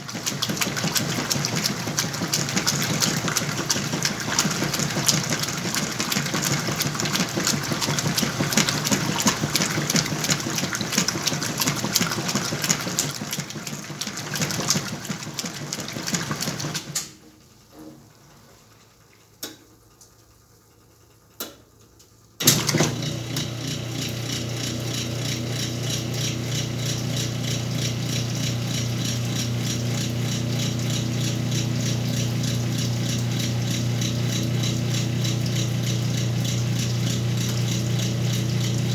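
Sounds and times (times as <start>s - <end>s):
motor hum: 0.0s - 16.6s, 22.4s - 38.9s
washing machine churning: 0.0s - 17.4s, 22.4s - 38.9s.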